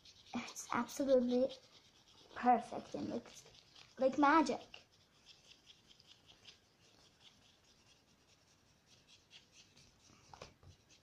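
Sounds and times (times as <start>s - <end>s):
pen tip scratching paper: 0.0s - 10.0s.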